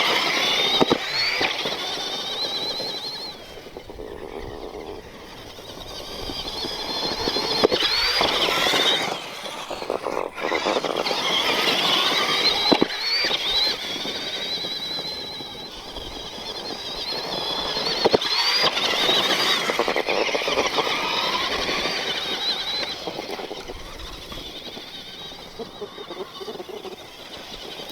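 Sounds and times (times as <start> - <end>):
tire noise: 0.0 - 27.9
toy truck motor whining: 0.0 - 27.9.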